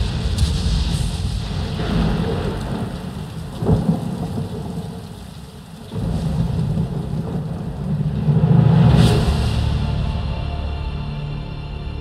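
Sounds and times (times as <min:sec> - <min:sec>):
thunder: 0:00.0 - 0:10.3
rain: 0:00.0 - 0:12.0.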